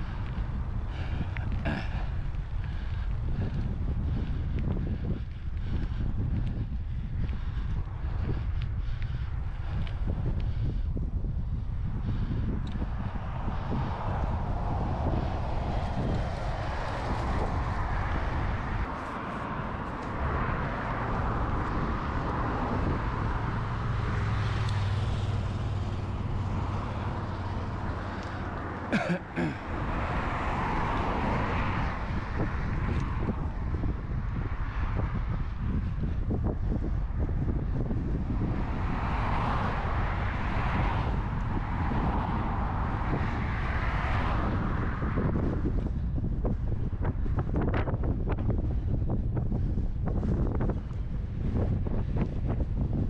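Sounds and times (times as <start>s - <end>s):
bicycle rolling noise: 0.0s - 53.0s
broad rushing noise: 0.0s - 53.0s
wind buffeting microphone: 0.0s - 53.0s.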